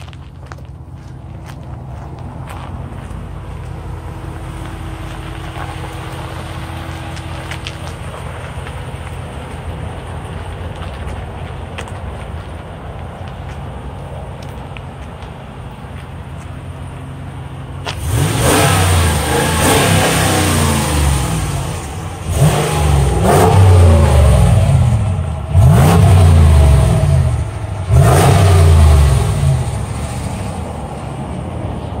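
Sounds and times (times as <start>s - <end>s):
pickup engine idling and revving: 0.0s - 32.0s.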